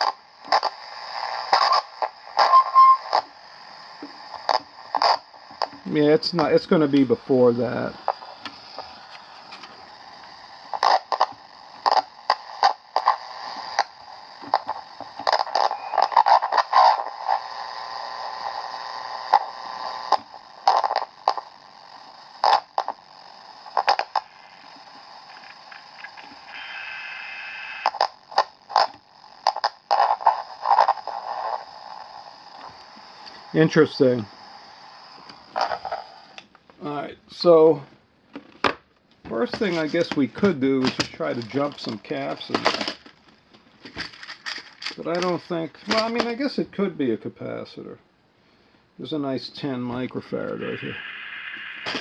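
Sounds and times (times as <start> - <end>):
crackling pops: 0.0 - 17.6, 18.3 - 36.9, 38.6 - 46.5, 49.9 - 52.0
radio static hiss: 0.0 - 52.0.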